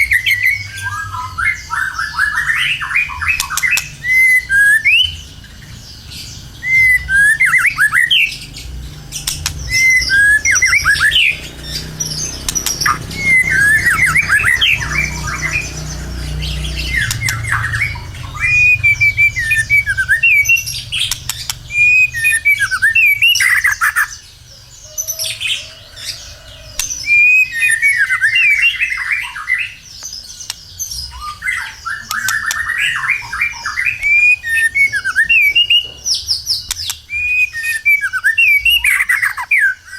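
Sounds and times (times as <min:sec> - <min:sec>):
bird singing whistles and rattles: 0:00.0 - 0:24.3, 0:24.9 - 0:39.9.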